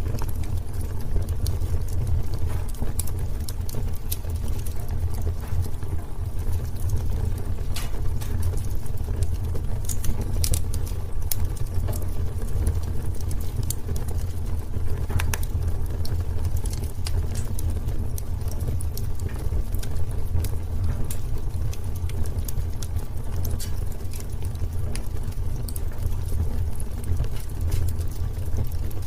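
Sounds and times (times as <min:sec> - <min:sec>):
fire pops and snaps: 0:00.0 - 0:29.0
low fire rumble: 0:00.0 - 0:29.0
wood fire crackling: 0:00.0 - 0:29.0.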